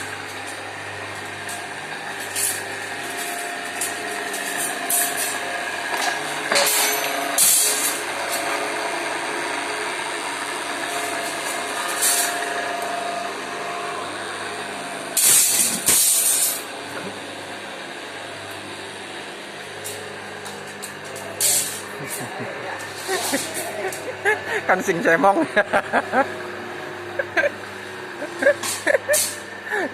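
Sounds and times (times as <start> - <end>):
workshop machine running: 0.0 - 29.9.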